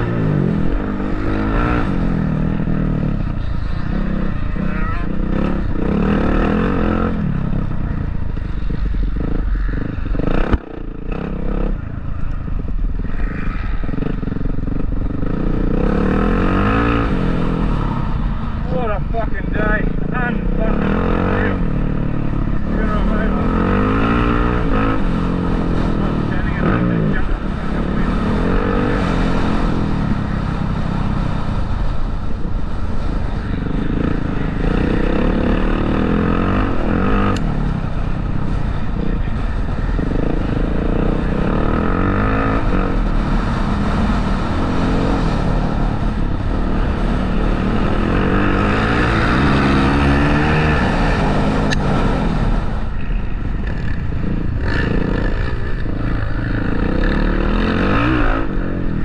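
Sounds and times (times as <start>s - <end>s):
motocross engine revving: 0.0s - 11.8s, 13.3s - 31.6s, 33.6s - 59.0s.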